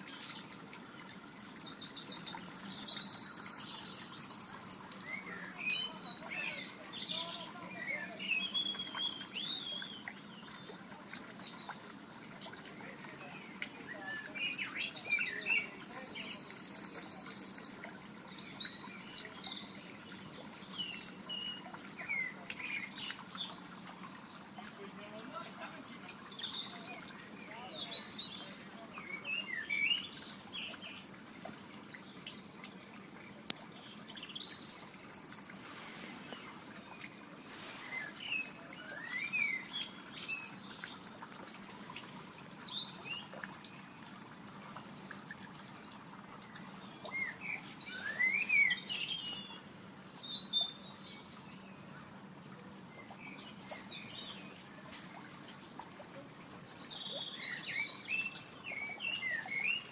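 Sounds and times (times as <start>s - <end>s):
songbirds chirping and whistling: 0.0s - 59.9s.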